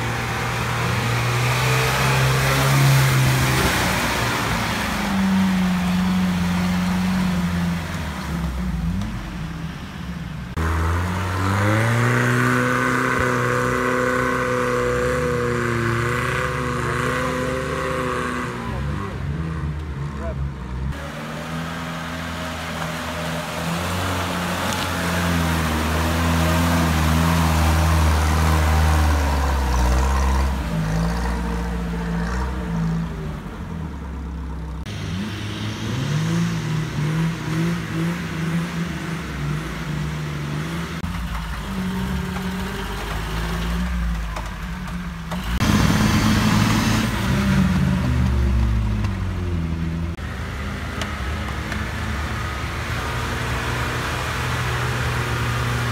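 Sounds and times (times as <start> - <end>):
off-road engines revving in mud: 0.0 - 55.9.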